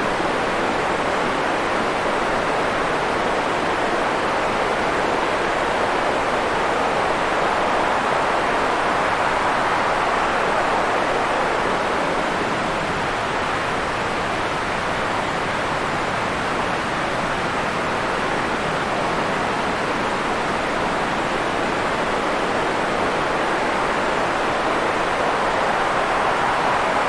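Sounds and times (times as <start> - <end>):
steady white noise hiss: 0.0 - 27.0.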